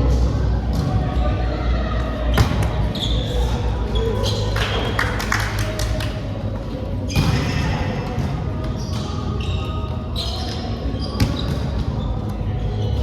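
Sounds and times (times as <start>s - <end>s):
echoing court noise: 0.0s - 13.0s.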